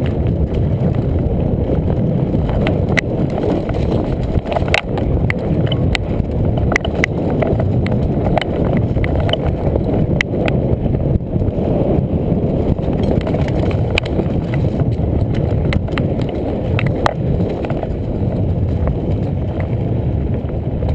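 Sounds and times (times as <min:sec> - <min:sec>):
bike clicking and rattling: 0:00.0 - 0:20.9
bike tyres rumbling on dirt: 0:00.0 - 0:20.9.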